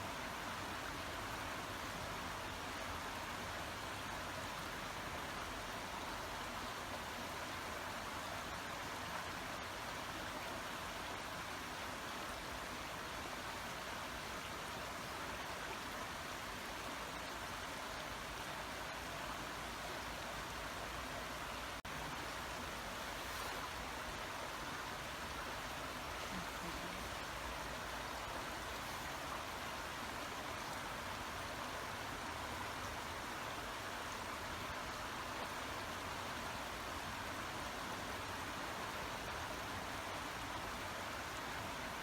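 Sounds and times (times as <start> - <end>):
brook water running: 0.0 - 42.0.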